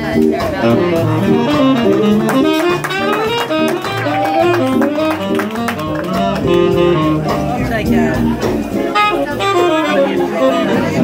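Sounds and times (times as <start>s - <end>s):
jazz band playing: 0.0s - 11.0s
saxophone solo: 0.6s - 11.0s.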